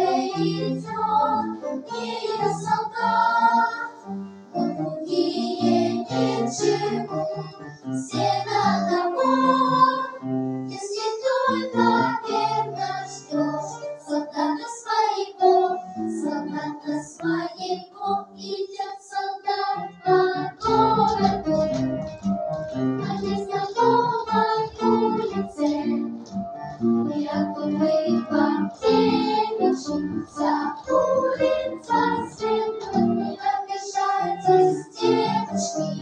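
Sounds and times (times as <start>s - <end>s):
children's choir singing: 0.0s - 22.0s, 22.8s - 26.2s, 27.0s - 36.0s
musical accompaniment: 0.0s - 36.0s.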